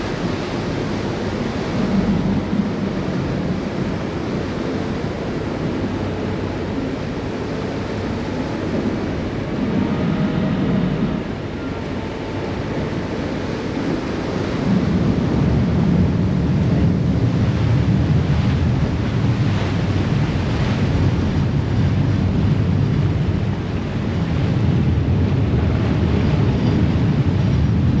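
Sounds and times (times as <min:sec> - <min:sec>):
ferry engine rumble: 0:00.0 - 0:28.0
water rushing: 0:00.0 - 0:28.0
wind buffeting microphone: 0:00.0 - 0:28.0.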